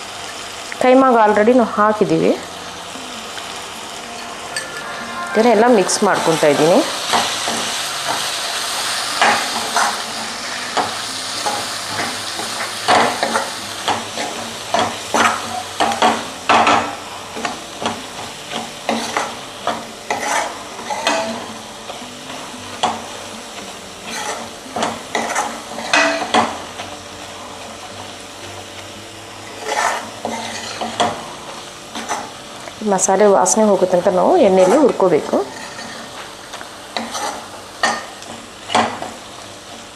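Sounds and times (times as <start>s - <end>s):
masala sizzling in oil: 0.0s - 39.9s.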